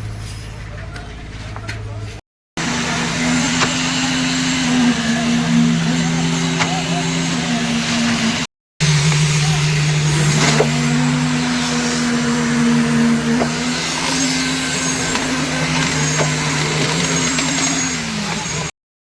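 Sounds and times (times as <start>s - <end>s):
pump engine running under load: 2.6s - 18.7s.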